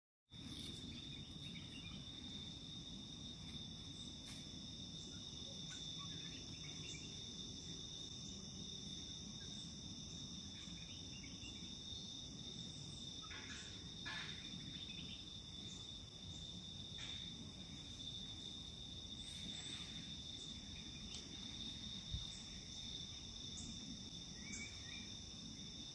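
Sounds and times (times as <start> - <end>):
insect buzzing chorus: 0.4 - 25.9.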